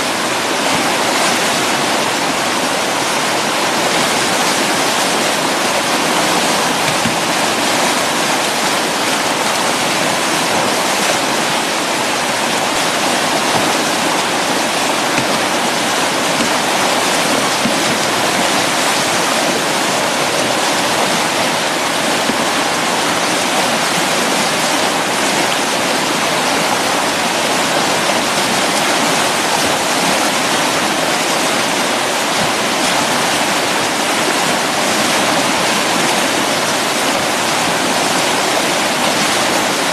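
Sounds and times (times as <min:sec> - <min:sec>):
whitewater rapid roaring: 0:00.0 - 0:39.9.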